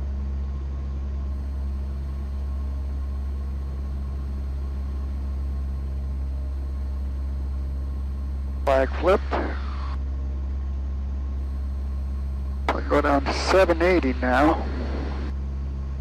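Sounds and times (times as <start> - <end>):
airplane engine and propeller droning: 0.0 - 16.0.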